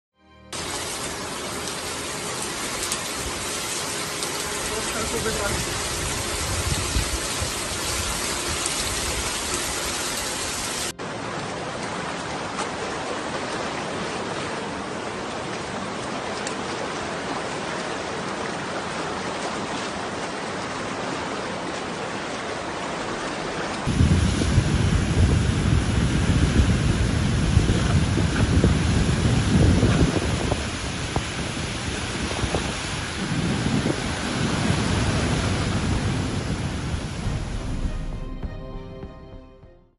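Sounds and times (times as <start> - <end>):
rushing floodwater: 0.6 - 38.3.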